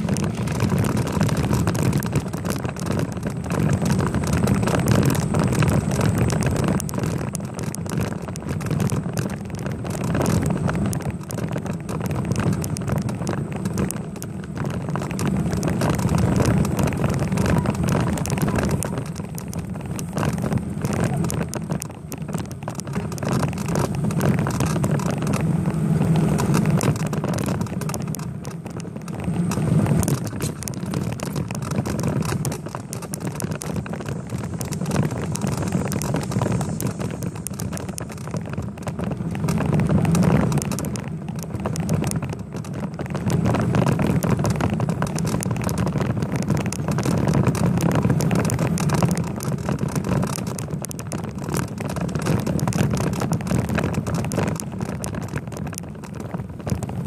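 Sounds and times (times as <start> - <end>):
bicycle rattles and clicks: 0.0 - 57.0
wind and road rumble: 0.0 - 57.0.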